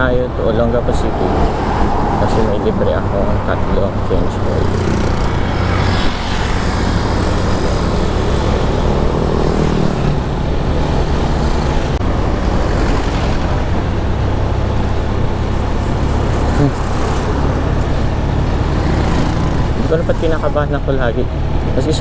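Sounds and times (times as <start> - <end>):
scooter engine: 0.0 - 22.0.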